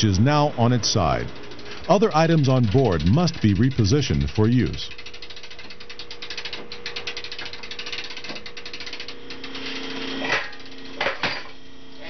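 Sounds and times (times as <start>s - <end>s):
faint hum: 0.0s - 12.0s
fast rattle: 0.1s - 11.6s.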